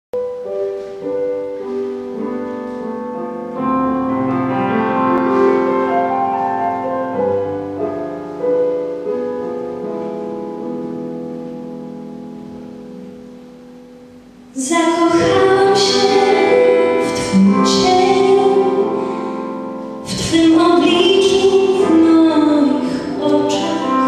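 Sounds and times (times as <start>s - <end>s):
grand piano chords: 0.2s - 24.0s.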